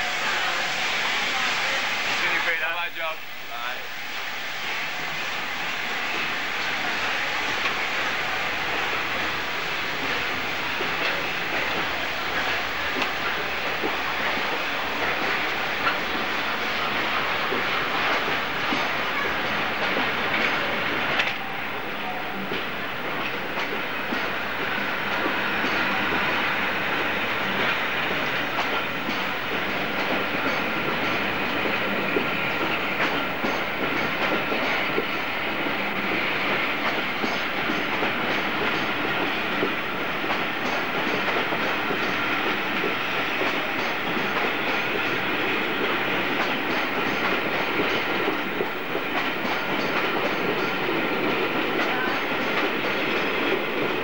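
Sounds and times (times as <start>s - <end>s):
train wheels clicking over rail joints: 7.5s - 21.4s, 22.4s - 54.0s.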